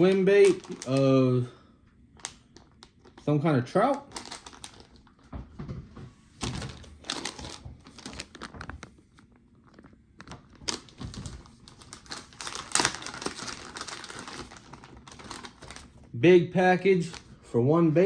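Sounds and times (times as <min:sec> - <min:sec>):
plastic packaging crinkling: 0:00.0 - 0:01.5, 0:02.1 - 0:05.3, 0:06.4 - 0:16.2, 0:16.8 - 0:17.4.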